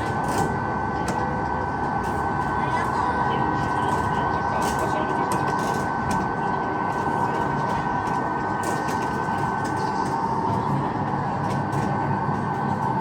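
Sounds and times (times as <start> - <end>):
constant high whine: 0.0 - 13.0
train rumbling: 0.0 - 13.0.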